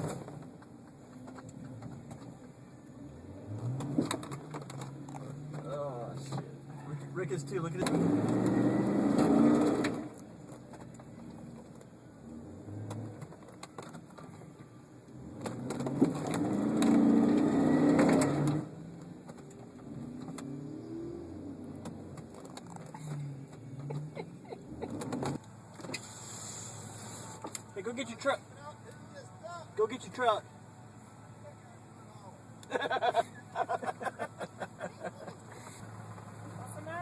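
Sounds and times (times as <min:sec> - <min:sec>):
tires spinning in mud: 0:00.0 - 0:28.8, 0:32.7 - 0:37.0
truck engines revving: 0:00.0 - 0:37.0.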